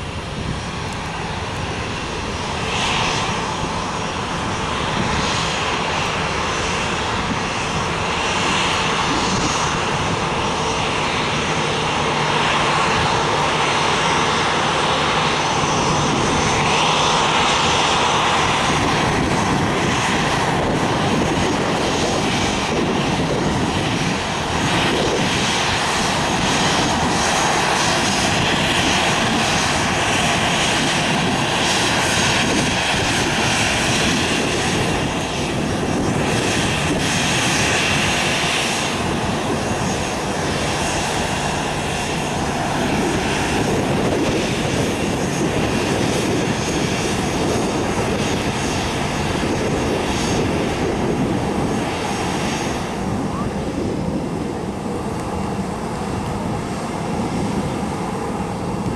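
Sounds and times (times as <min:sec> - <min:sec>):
faint engine whine: 0:00.0 - 0:58.9
jet engine roar: 0:00.0 - 0:58.9.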